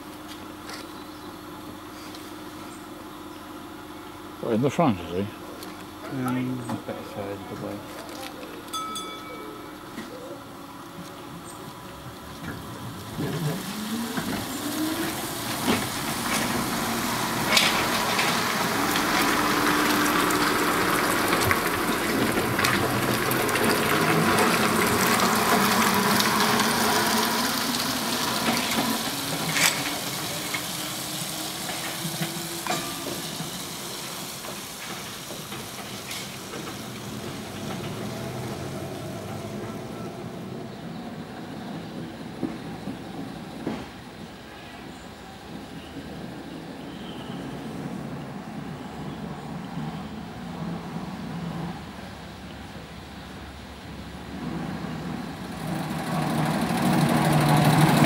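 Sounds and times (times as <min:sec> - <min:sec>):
trolleybus motor whining: 0:00.0 - 0:44.5, 0:45.1 - 0:58.0
bus running noise passing: 0:00.0 - 0:58.0.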